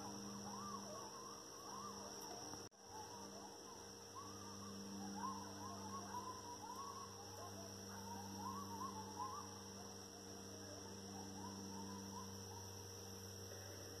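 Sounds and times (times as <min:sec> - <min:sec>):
coyotes howling and yipping: 0:00.0 - 0:14.0
steady low hum: 0:00.0 - 0:14.0.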